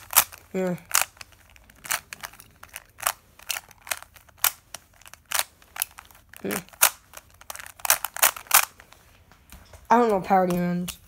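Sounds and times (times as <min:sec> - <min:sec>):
puzzle layers clacking: 0:00.0 - 0:11.0.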